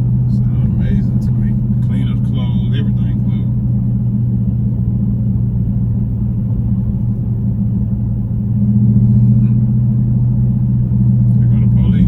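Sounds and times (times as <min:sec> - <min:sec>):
car engine and exhaust drone: 0:00.0 - 0:12.0.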